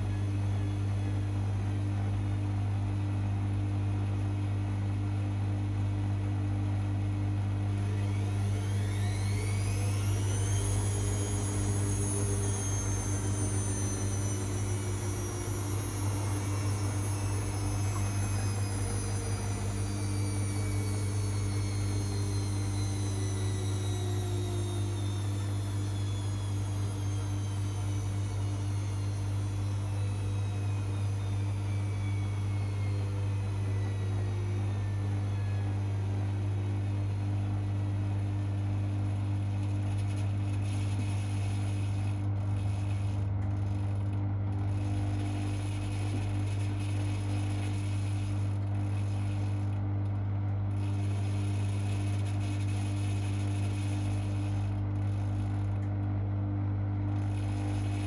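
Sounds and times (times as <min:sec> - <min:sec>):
drum motor whine: 0:00.0 - 0:58.0
washing machine low hum: 0:00.0 - 0:58.0.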